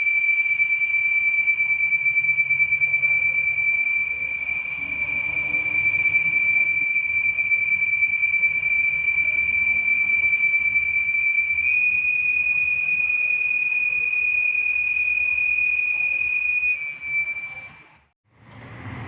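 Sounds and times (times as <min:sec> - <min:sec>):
high-pitched engine whistle: 0:00.0 - 0:18.1.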